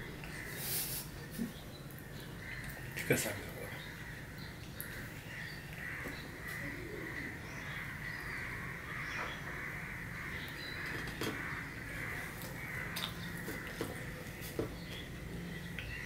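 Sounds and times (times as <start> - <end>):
birds chattering: 0.0 - 16.0.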